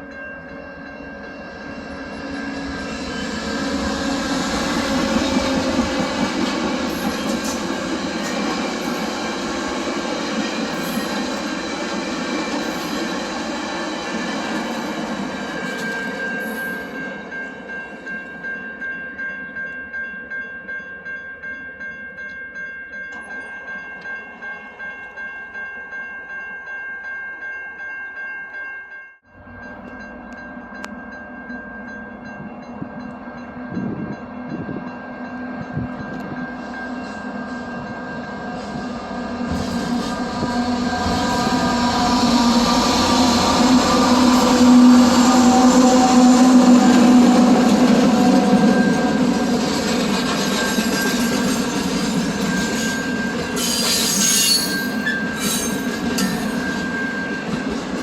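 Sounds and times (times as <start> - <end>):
high squeal of train: 0.0 - 18.9, 29.3 - 58.0.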